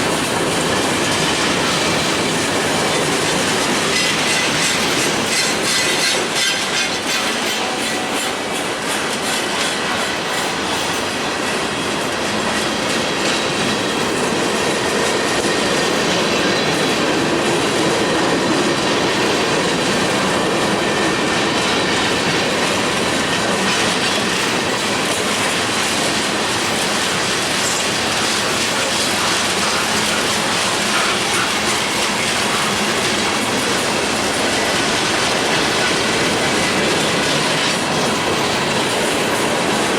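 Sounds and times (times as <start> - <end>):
wheels clicking over rail joints: 0.0 - 39.9.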